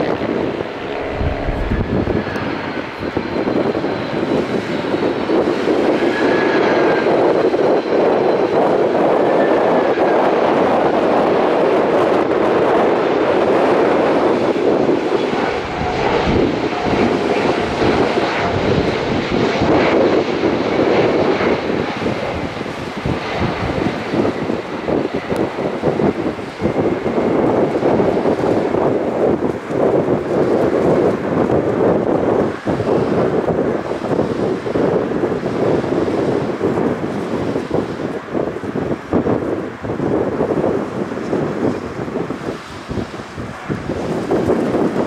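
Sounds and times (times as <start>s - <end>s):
airliner engines rumbling: 0.0s - 45.0s.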